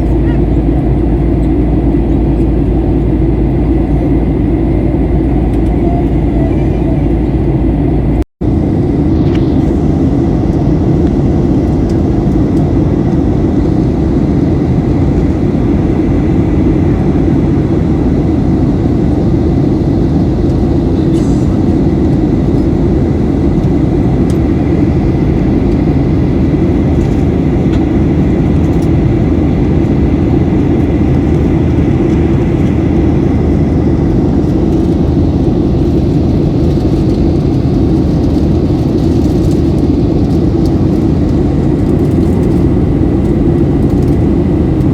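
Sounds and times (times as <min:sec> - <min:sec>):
jet engine drone: 0:00.0 - 0:44.9.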